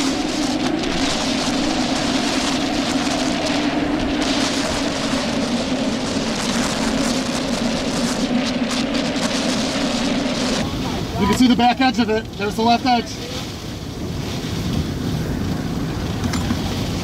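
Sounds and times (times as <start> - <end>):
engine and road drone: 0.0 - 17.0.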